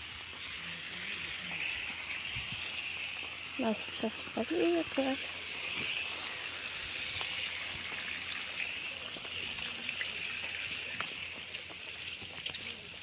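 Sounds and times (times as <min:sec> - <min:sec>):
water trickling through pipe: 0:00.0 - 0:13.0.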